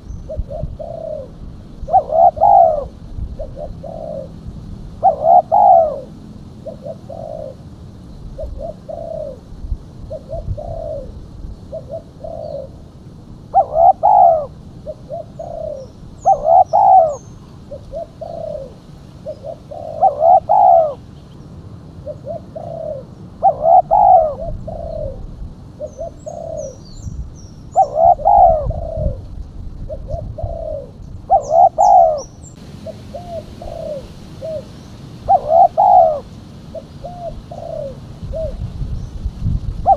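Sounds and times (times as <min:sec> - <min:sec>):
dove cooing: 0:00.0 - 0:07.7, 0:08.3 - 0:12.9, 0:13.5 - 0:21.1, 0:22.0 - 0:39.1
small birds chirping: 0:00.0 - 0:09.4, 0:13.6 - 0:25.2, 0:25.8 - 0:29.2, 0:29.9 - 0:39.9.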